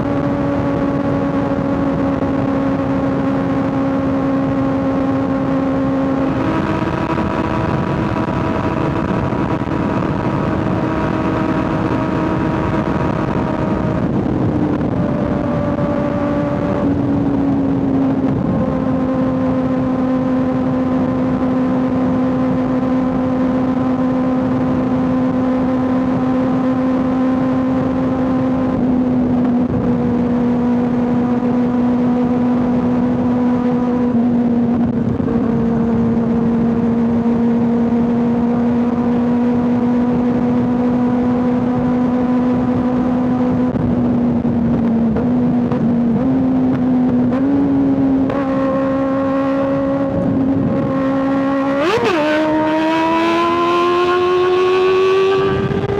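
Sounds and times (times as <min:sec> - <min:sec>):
motorcycle engine cruising: 0:00.0 - 0:55.9
rush of wind noise: 0:00.0 - 0:55.9.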